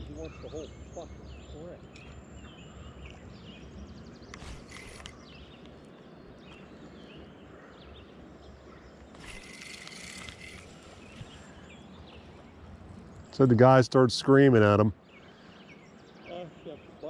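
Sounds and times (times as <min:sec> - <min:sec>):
songbird chirps: 0:00.0 - 0:17.0.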